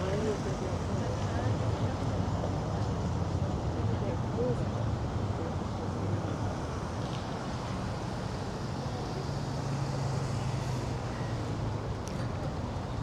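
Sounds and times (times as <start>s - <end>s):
outdoor city background noise: 0.0s - 13.0s.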